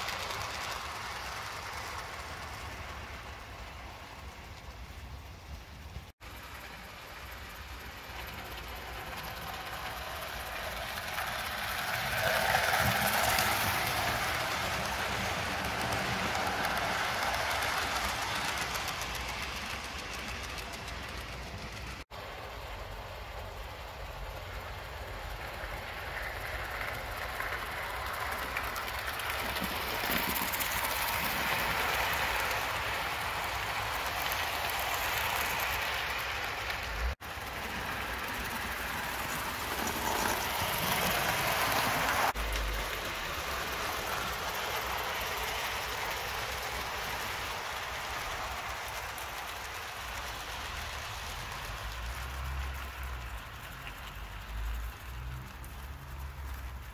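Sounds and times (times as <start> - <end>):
model steam locomotive hissing: 0.0 - 56.9.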